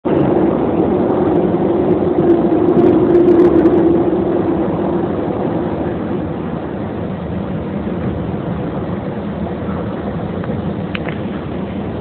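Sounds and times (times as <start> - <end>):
train car rumbling: 0.0 - 12.0.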